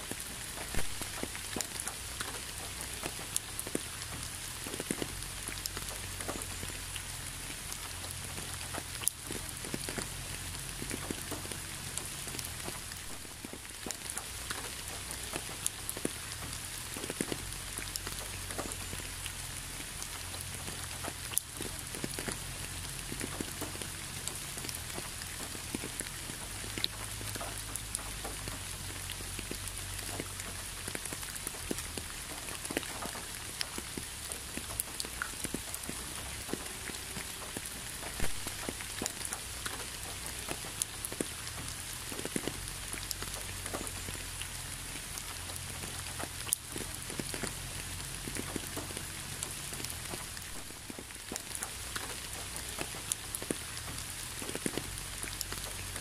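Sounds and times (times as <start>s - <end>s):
rain falling: 0.0s - 56.0s
raindrops tapping on a surface: 0.0s - 56.0s.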